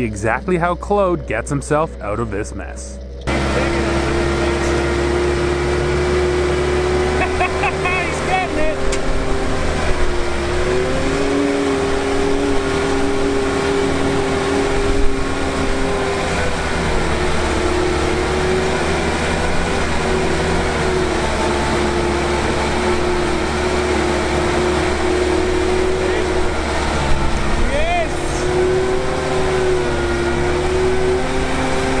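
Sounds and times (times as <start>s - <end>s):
diesel engine whining under load: 0.0s - 32.0s
tires spinning in mud: 0.0s - 32.0s.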